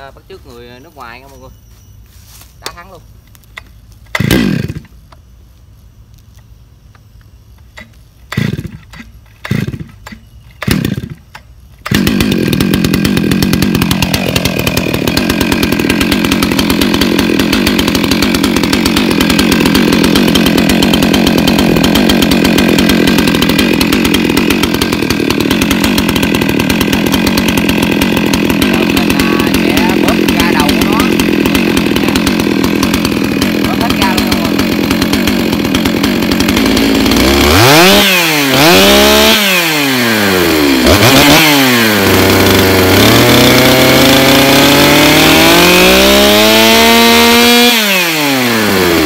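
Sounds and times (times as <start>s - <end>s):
chainsaw starting attempts: 2.6s - 5.3s, 6.4s - 49.0s
chainsaw engine running loudly: 4.1s - 5.0s, 7.8s - 49.0s.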